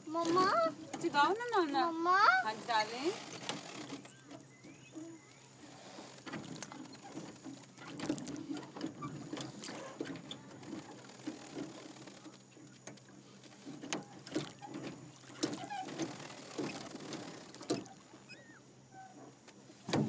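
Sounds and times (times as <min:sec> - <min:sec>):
oar splashing water: 0:00.0 - 0:20.0.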